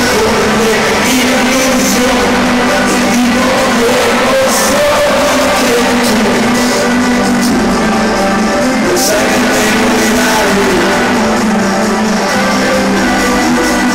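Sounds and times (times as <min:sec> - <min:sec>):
loud live concert music: 0:00.0 - 0:13.9
person singing melody: 0:00.0 - 0:13.9.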